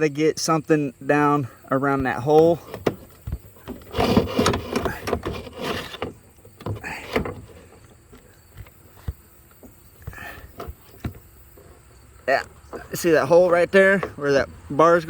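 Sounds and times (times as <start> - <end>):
handling clicks and knocks: 1.9 - 15.0.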